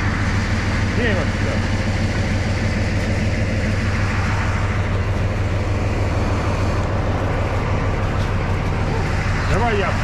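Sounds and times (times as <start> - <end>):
diesel locomotive idling: 0.0 - 10.0.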